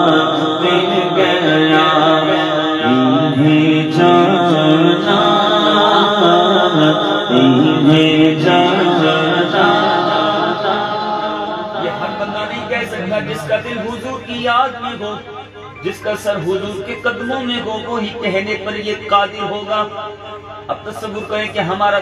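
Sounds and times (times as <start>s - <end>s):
man singing through loudspeakers: 0.0s - 22.0s.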